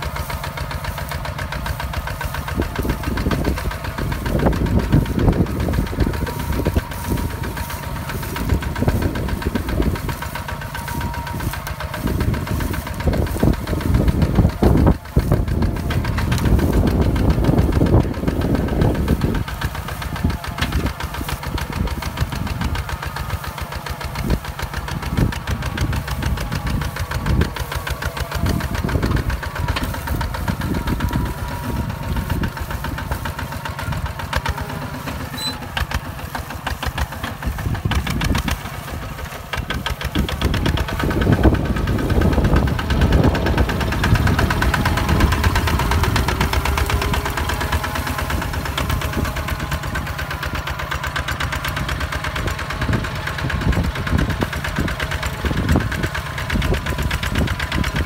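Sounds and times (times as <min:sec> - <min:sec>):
diesel tractor engine chugging: 0:00.0 - 0:58.0.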